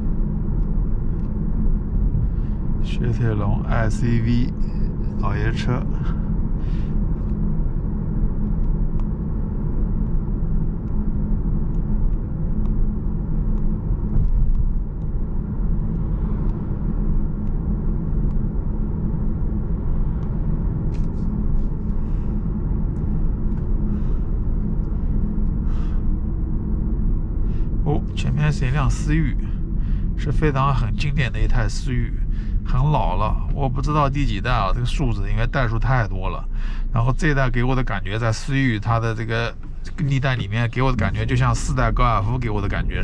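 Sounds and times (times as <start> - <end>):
car road noise from inside: 0.0 - 43.0.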